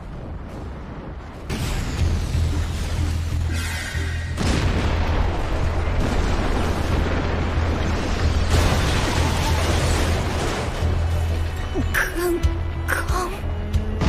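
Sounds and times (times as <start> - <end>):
deep rumbling explosion blast: 0.0 - 11.5.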